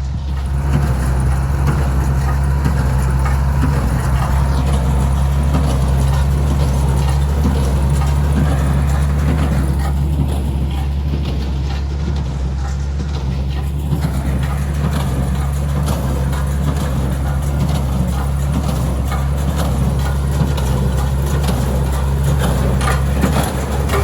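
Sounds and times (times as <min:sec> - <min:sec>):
baler mechanical clatter: 0:00.0 - 0:24.0
tractor engine running: 0:00.0 - 0:24.0.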